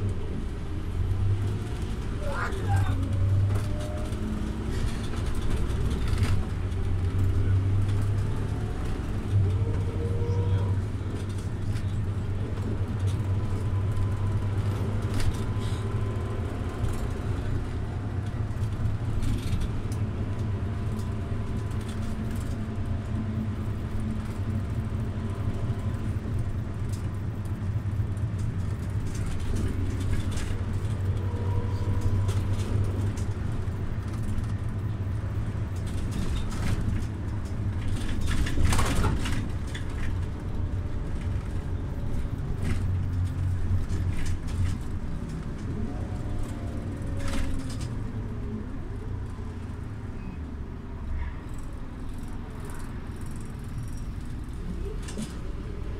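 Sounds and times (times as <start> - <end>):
bus diesel engine drone: 0.0 - 55.9.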